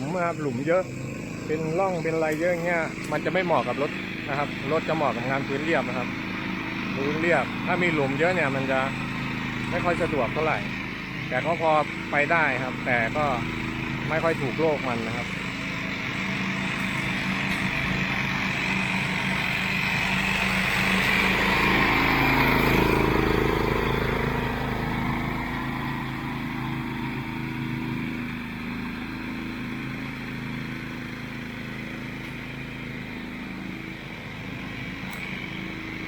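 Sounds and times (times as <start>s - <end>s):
ride-on mower engine running: 0.0s - 36.0s.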